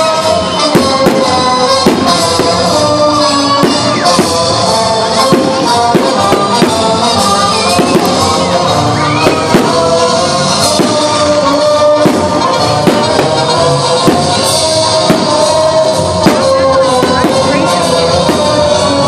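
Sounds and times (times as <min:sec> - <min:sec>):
loud music with singing and beat: 0:00.0 - 0:19.0.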